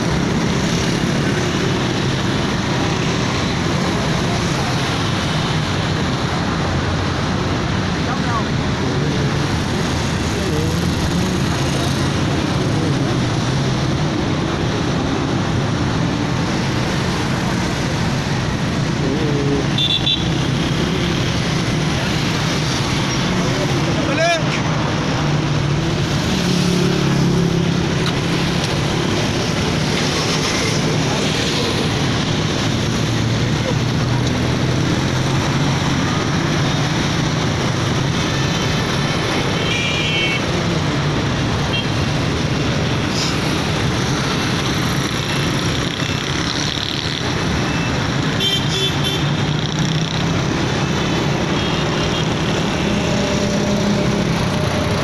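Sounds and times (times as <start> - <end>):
passing cars and motorbikes: 0.0 - 55.0.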